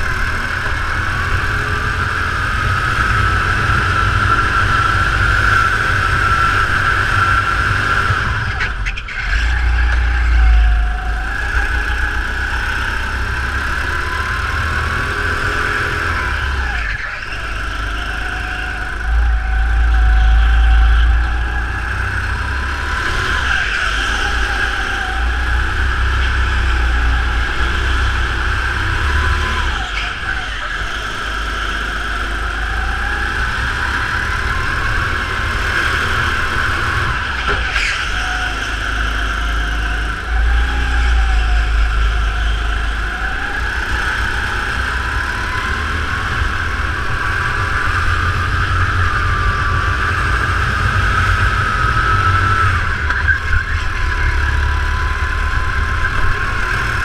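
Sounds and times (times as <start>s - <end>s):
go-kart engine: 0.0s - 57.0s.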